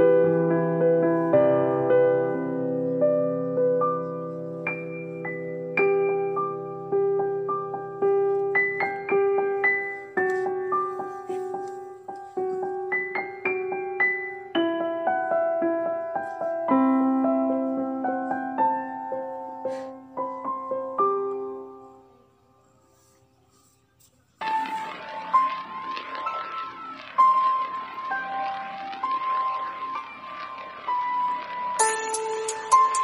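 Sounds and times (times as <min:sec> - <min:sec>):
gentle piano music: 0:00.0 - 0:23.2, 0:24.4 - 0:33.0.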